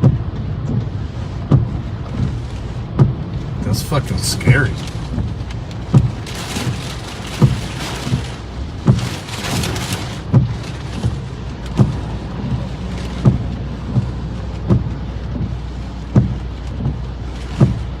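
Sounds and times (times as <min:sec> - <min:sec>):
heavy rain on a car: 0:00.0 - 0:18.0
storm wind: 0:00.0 - 0:18.0
windshield wipers thumping: 0:00.0 - 0:18.0.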